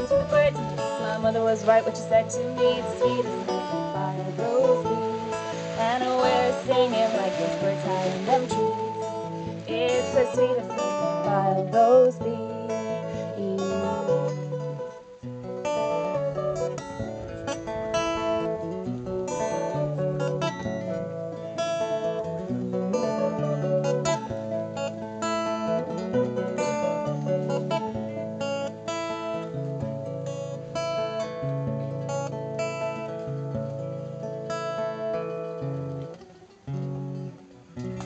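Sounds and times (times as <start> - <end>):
acoustic guitar strumming: 0.0 - 38.0
mandolin picked melody: 0.0 - 38.0.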